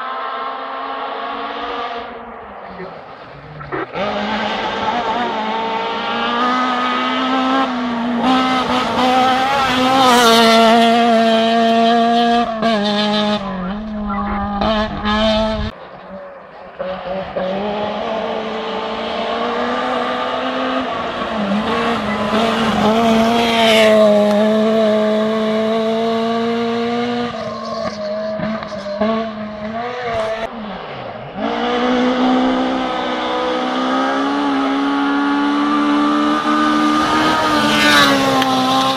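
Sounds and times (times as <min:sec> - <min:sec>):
distant rally car engine: 0:00.0 - 0:38.9.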